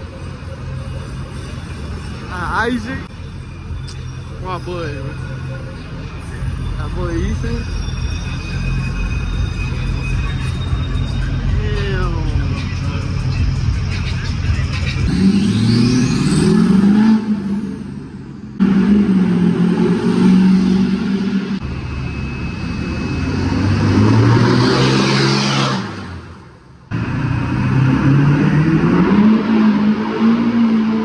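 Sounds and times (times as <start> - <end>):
truck engines revving past: 0.0 - 31.0.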